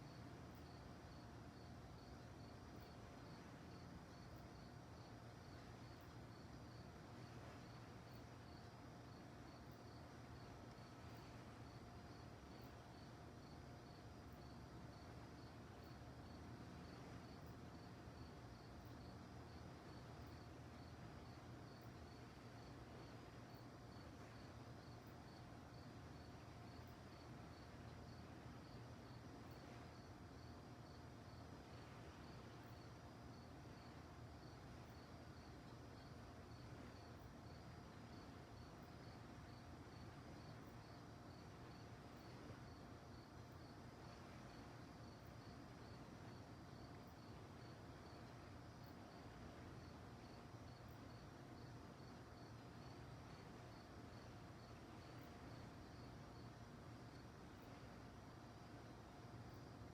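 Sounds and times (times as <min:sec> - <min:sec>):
faint crickets chirping: 0:00.0 - 0:59.9.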